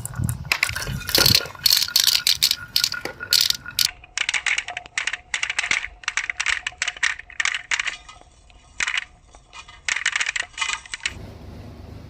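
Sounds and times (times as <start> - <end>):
small hard objects clattering: 0.0 - 11.1.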